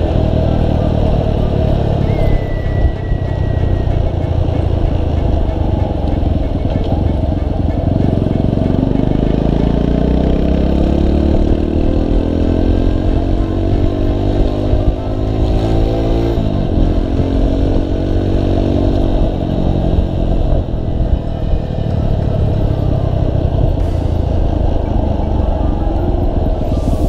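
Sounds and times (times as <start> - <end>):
wind rumble on microphone: 0.0 - 9.2, 9.8 - 27.0
motorcycle engine accelerating: 0.0 - 27.0.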